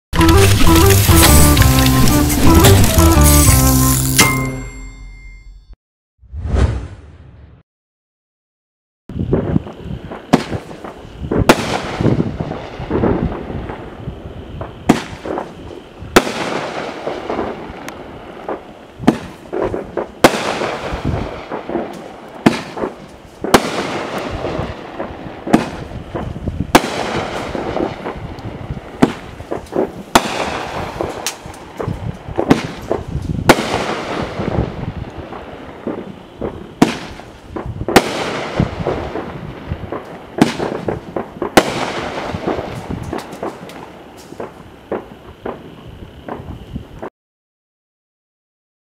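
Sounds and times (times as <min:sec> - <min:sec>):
fireworks crackling: 0:00.2 - 0:04.4, 0:09.1 - 0:47.1
fireworks loud reports: 0:00.2 - 0:04.4, 0:09.1 - 0:47.0.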